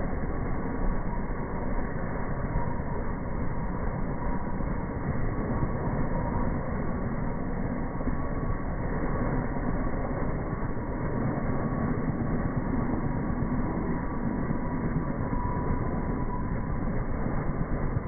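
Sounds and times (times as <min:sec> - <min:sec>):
faint whine: 0:00.0 - 0:18.0
helicopter engine and rotor drone: 0:00.0 - 0:18.0.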